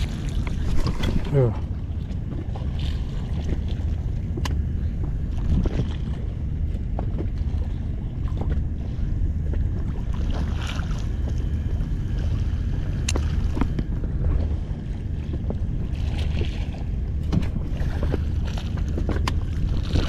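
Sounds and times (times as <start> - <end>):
water lapping at boat: 0.0 - 20.0
wind buffeting microphone: 0.0 - 20.0.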